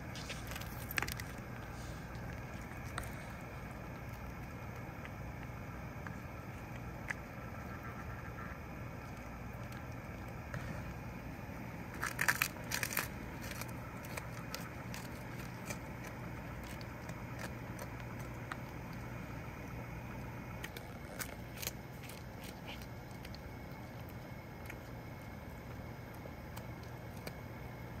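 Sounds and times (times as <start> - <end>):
cat chewing and crunching fish: 0.0 - 28.0
steady low hum: 0.0 - 28.0.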